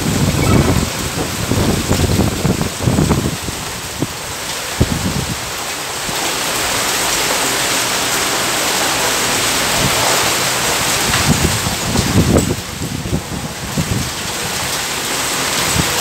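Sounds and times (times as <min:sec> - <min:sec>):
heavy rain on pavement: 0:00.0 - 0:16.0.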